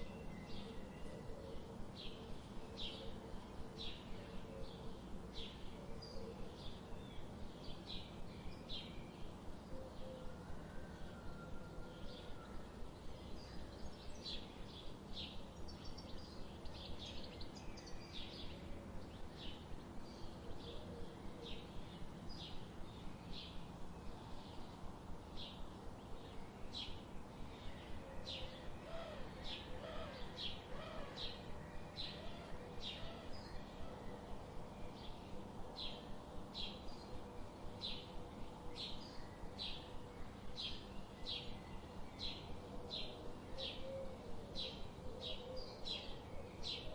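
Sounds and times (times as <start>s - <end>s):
steady background noise: 0.0s - 46.9s.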